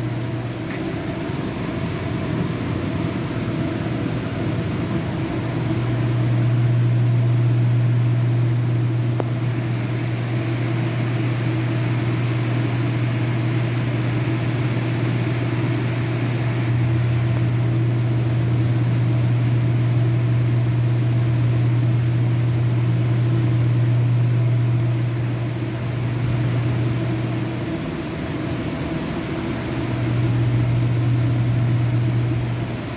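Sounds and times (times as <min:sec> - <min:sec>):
low machine hum: 0:00.0 - 0:32.9.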